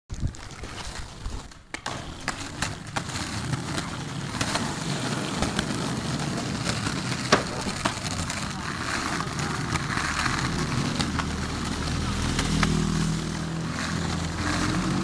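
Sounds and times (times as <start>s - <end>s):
skateboard wheels rolling on asphalt: 0.1s - 15.0s
skateboard clacking: 1.2s - 15.0s.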